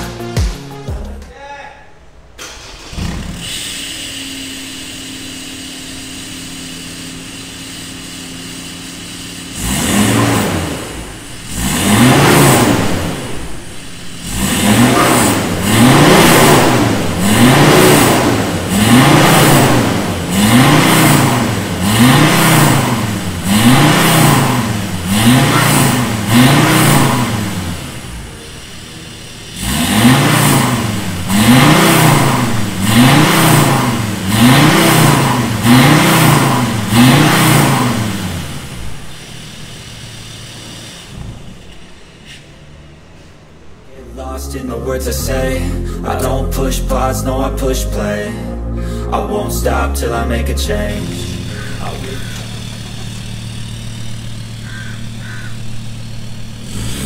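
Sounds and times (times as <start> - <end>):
diesel engine idling and revving: 0.0 - 1.2, 2.1 - 57.0.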